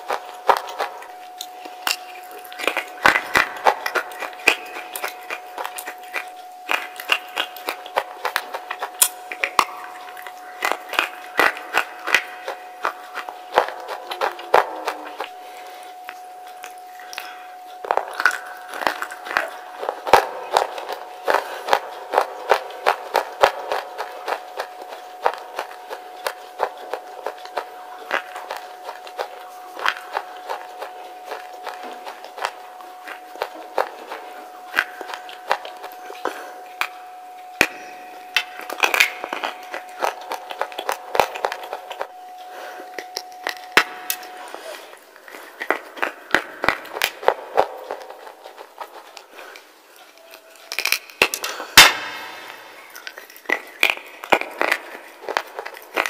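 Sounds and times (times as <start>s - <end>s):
faint steady tone: 0.0s - 56.0s
slate crunching between teeth: 0.0s - 56.0s.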